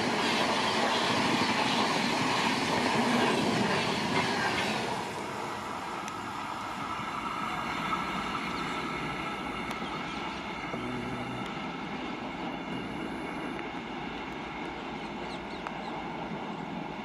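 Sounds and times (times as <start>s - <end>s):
passenger train passing: 0.0s - 17.0s.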